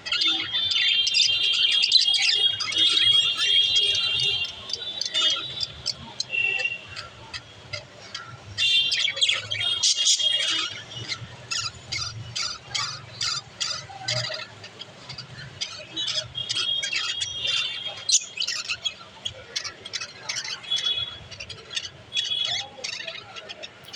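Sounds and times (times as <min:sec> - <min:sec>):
budgerigars chirping and squawking: 0:00.0 - 0:23.9.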